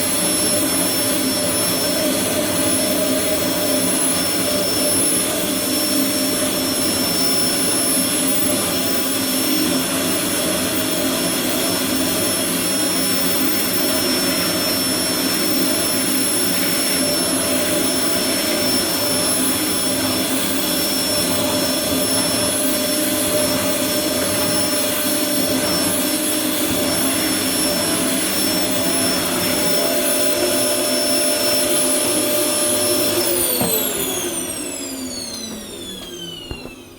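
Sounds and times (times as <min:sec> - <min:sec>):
vacuum cleaner whine: 0:00.0 - 0:36.9.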